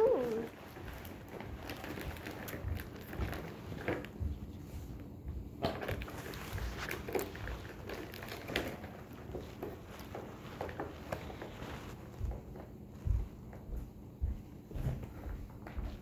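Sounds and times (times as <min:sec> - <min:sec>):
hands handling a doll: 0:00.0 - 0:13.7.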